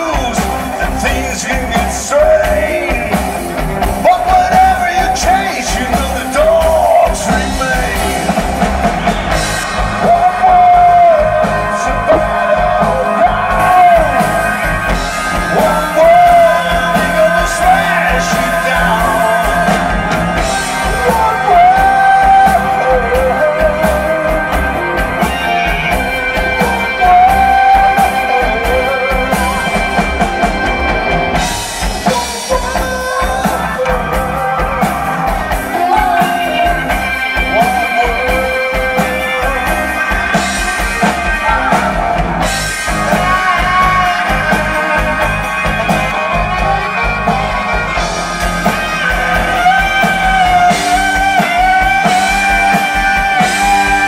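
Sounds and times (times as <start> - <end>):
bass guitar: 0.0 - 54.0
drums: 0.0 - 54.0
keyboards: 0.0 - 54.0.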